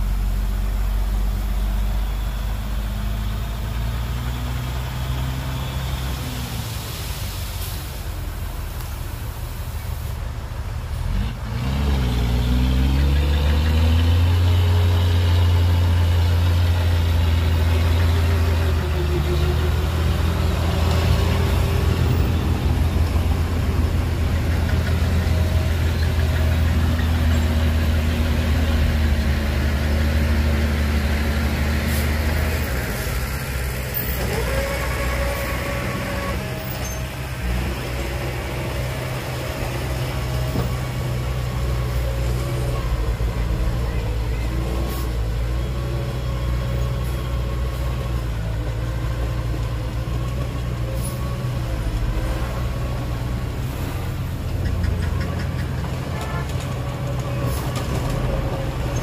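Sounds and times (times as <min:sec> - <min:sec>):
heavy diesel engine revving: 0:10.8 - 0:59.0.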